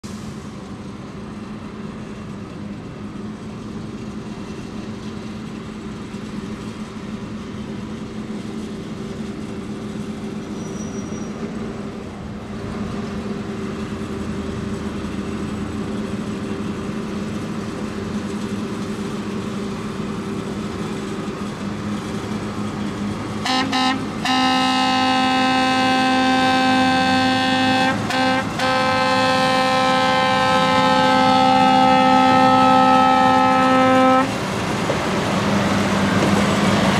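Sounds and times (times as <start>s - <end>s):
rail vehicle engine humming: 0.0s - 36.9s.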